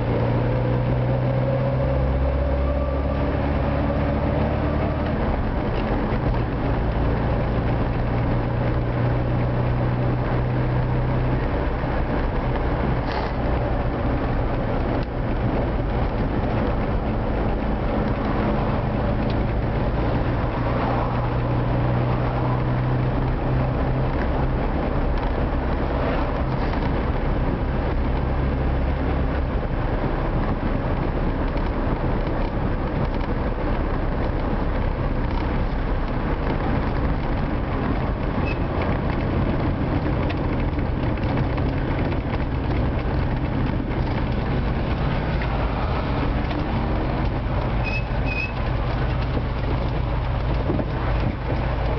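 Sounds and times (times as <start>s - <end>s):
car engine and road noise: 0.0s - 51.9s.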